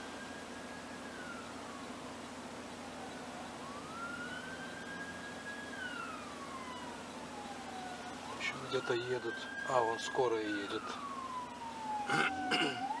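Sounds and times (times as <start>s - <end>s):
ambulance siren wailing: 0.0s - 13.0s.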